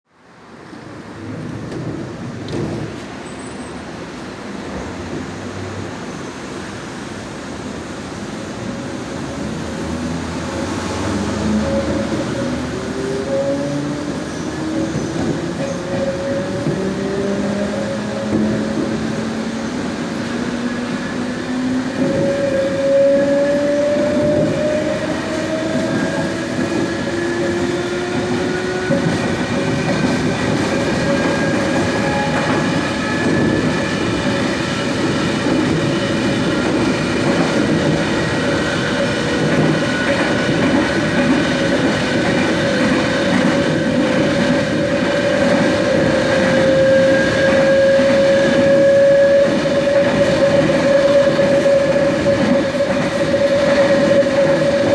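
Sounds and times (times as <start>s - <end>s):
wheels rumbling on rail: 0.2s - 54.9s.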